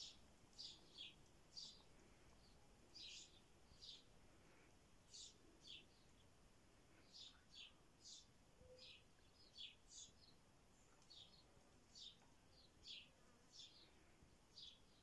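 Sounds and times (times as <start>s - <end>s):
small bird chirping: 0.0s - 4.1s, 5.0s - 6.4s, 7.0s - 15.0s.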